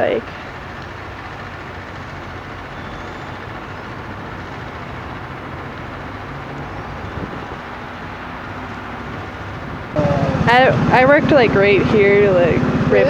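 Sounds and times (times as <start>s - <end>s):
engine drone: 0.0s - 13.0s
noisy rush: 0.0s - 13.0s.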